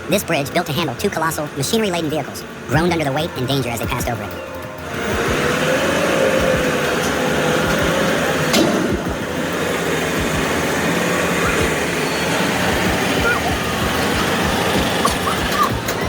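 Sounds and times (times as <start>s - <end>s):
heavy vehicle engines with whine: 0.0s - 16.0s.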